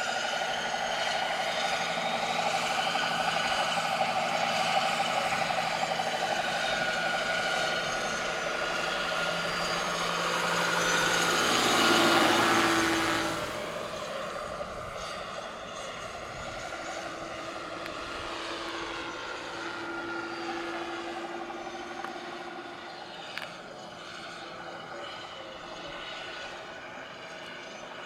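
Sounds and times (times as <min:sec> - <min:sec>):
model helicopter whine: 0:00.0 - 0:28.0.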